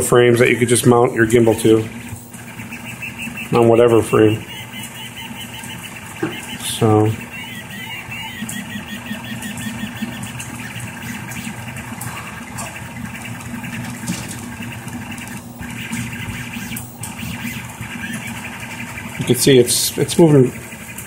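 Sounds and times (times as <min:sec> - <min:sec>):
cooling fans humming: 0:00.0 - 0:21.0
stepper motors whining: 0:00.0 - 0:21.0.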